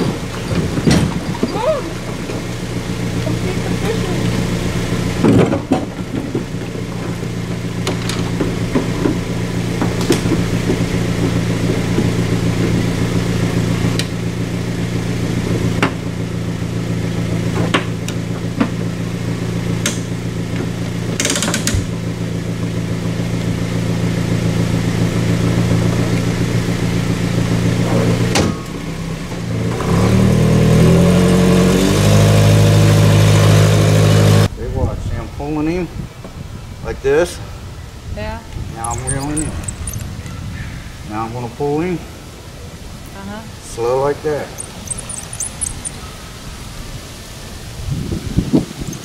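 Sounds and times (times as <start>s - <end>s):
vehicle engine idling and revving: 0.0s - 34.6s, 36.1s - 49.0s.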